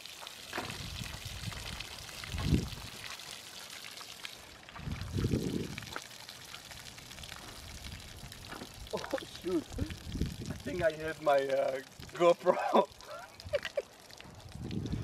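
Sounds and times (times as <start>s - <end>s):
water trickling onto grass: 0.0s - 15.0s.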